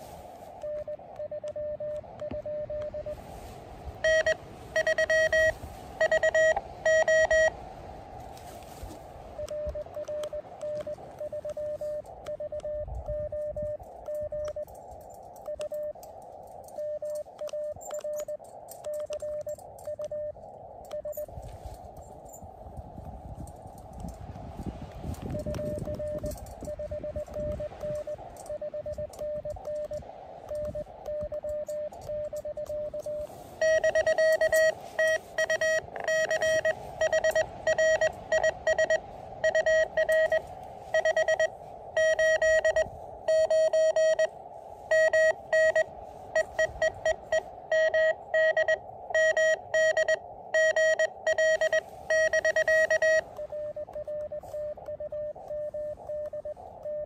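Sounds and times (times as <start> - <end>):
morse code tone: 0.0 - 7.6, 8.7 - 22.5, 25.1 - 57.0.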